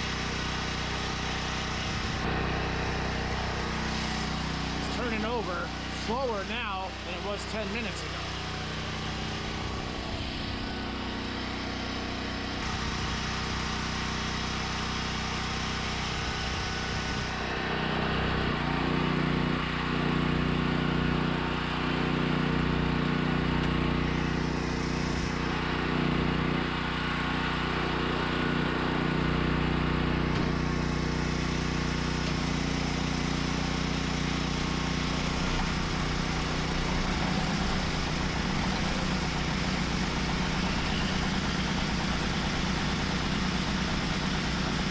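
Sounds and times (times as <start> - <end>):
starter motor cranking diesel engine: 0.0 - 44.9.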